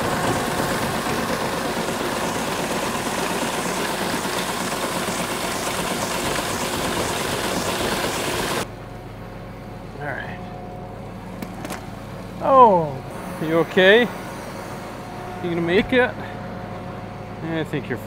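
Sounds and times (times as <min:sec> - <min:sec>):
conveyor rushing noise: 0:00.0 - 0:18.0
farm machinery engine hum: 0:00.0 - 0:18.0.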